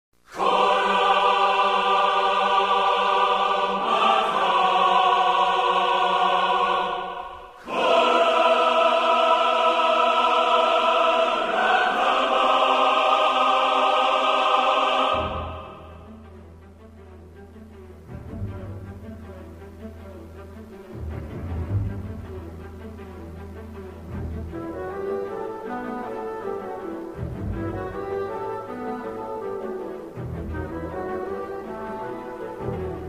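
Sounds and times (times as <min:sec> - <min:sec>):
sustained choir-like chords: 0:00.3 - 0:33.0.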